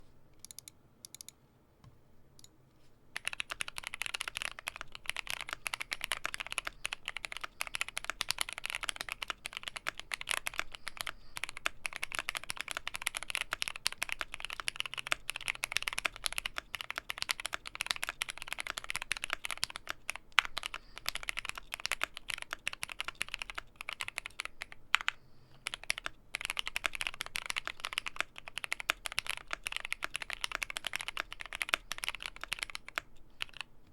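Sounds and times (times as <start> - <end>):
mechanical keyboard typing: 0.4 - 1.3, 3.2 - 33.7.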